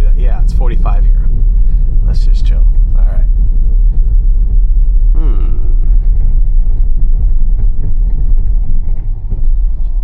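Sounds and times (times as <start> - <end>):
tyre and road noise on snow: 0.0 - 10.0.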